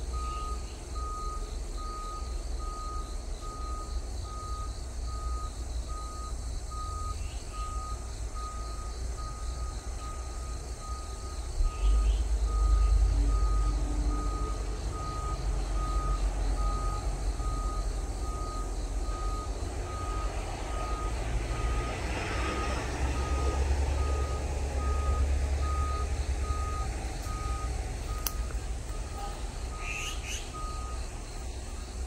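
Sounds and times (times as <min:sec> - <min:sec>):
engine rumble: 0:00.0 - 0:32.0
vehicle reversing alarm beeping: 0:00.0 - 0:32.0.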